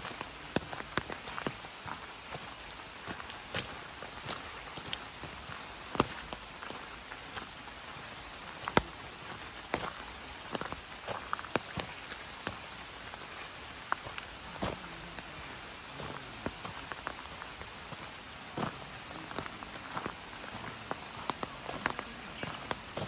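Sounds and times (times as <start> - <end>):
light rain hissing: 0.0 - 23.0
raindrops ticking: 0.0 - 23.0.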